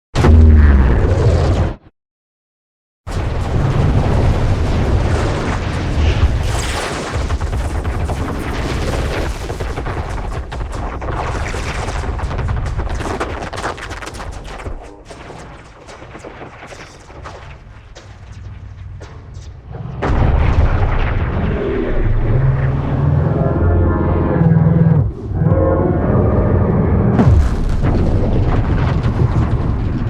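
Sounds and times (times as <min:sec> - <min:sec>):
crackling rumbling explosion: 0:00.2 - 0:01.8, 0:03.1 - 0:30.0.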